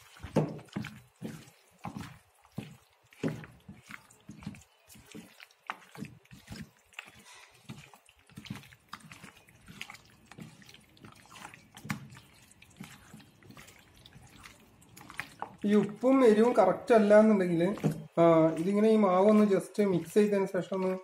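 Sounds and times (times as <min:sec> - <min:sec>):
hands squelching wet marinade: 0:00.0 - 0:21.0.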